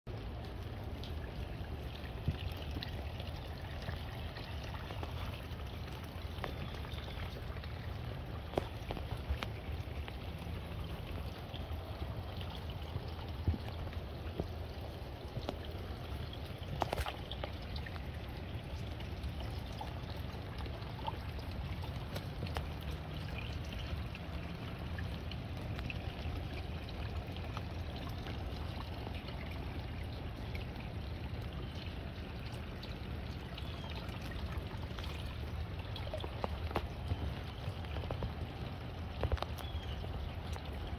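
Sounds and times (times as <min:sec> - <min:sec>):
rain falling on pond: 0:00.1 - 0:40.9
stream of water splashing: 0:00.1 - 0:40.9
water drips: 0:00.1 - 0:40.9.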